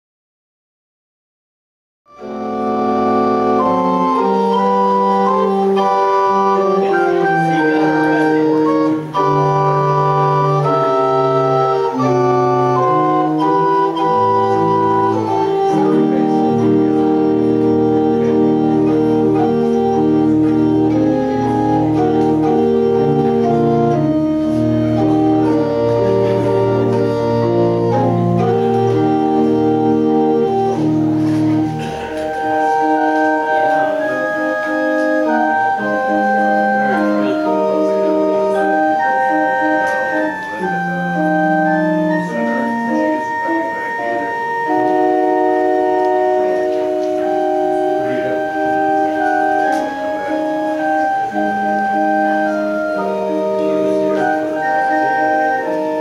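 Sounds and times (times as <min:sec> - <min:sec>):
organ playing slow chords: 0:02.1 - 0:56.0.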